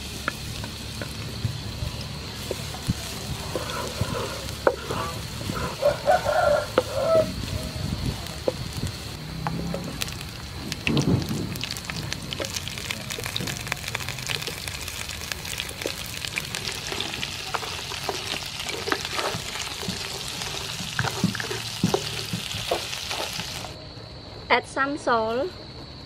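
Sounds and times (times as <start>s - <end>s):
prawns sizzling in hot oil: 0.0s - 23.8s.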